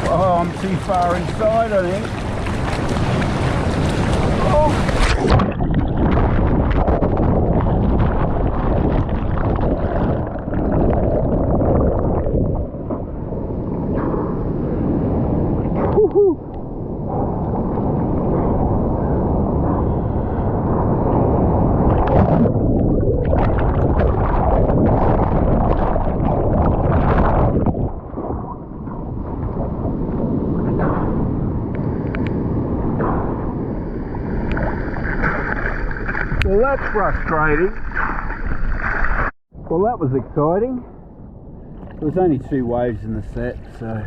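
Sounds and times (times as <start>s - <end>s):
muffled waves churning underwater: 0.0s - 44.0s.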